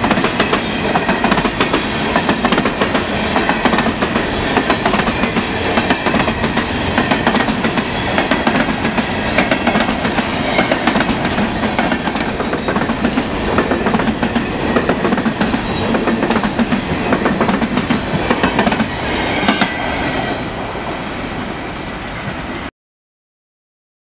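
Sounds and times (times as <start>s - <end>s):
freight train rolling past: 0.0s - 22.7s.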